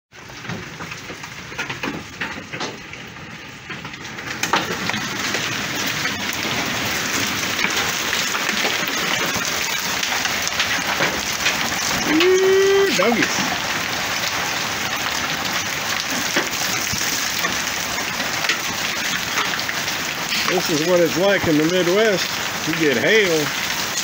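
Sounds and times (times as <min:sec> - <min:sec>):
hailstones ticking: 0:00.1 - 0:24.0
heavy rain hissing: 0:03.0 - 0:24.0.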